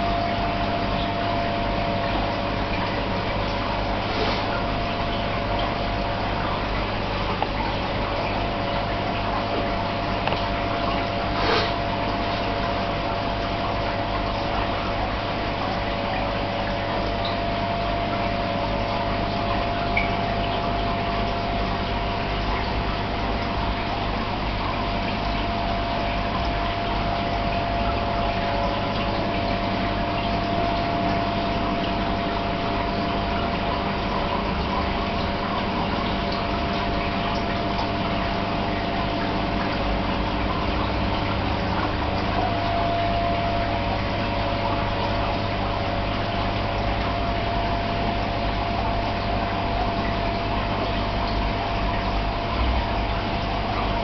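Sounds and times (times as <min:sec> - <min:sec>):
filter pump humming: 0:00.0 - 0:54.0
moving water: 0:00.0 - 0:54.0.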